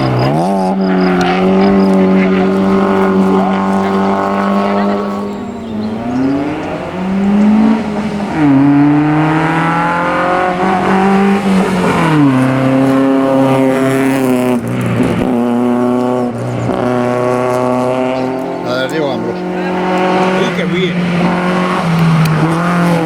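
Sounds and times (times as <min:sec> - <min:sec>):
car engine at full throttle: 0:00.0 - 0:23.0.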